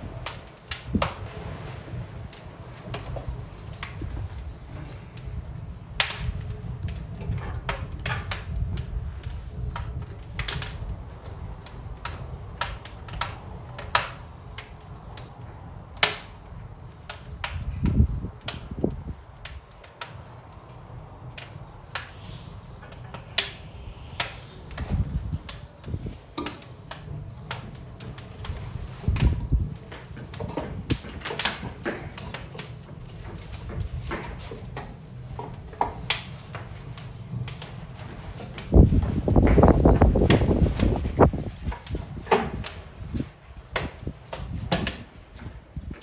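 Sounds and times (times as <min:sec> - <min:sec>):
low rumble of fire: 0:00.0 - 0:46.0
wood fire crackling and popping: 0:00.0 - 0:46.0.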